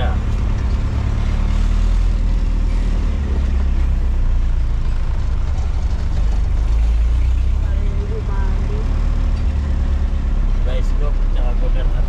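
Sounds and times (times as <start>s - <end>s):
road and wind noise: 0.0s - 12.0s
truck engine rumble: 0.0s - 12.0s.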